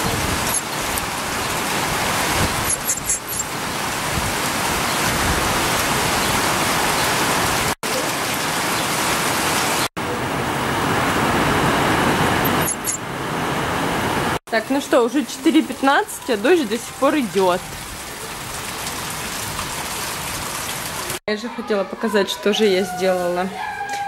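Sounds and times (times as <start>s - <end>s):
heavy rain pouring: 0.0s - 21.2s.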